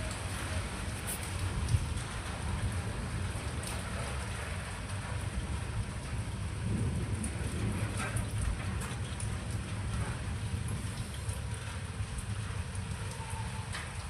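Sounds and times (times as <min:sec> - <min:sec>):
low thunder rumble: 0:00.0 - 0:14.0
steady rain falling: 0:00.0 - 0:14.0.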